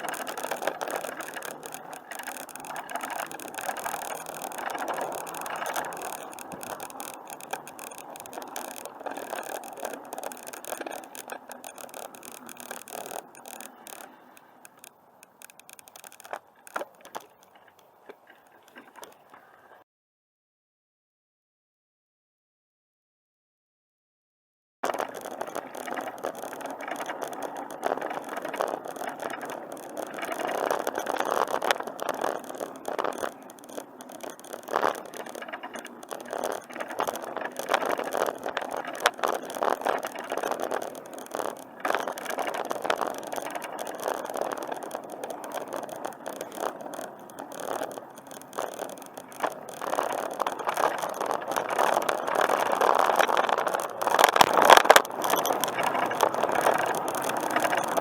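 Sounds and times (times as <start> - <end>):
bicycle clicks and knocks: 0.0 - 19.6, 24.8 - 58.0
bicycle rolling rattle: 0.0 - 19.8, 24.8 - 58.0.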